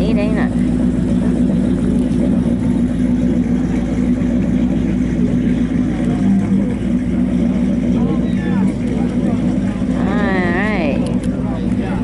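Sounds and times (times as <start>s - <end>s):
piston engine running: 0.0s - 12.0s.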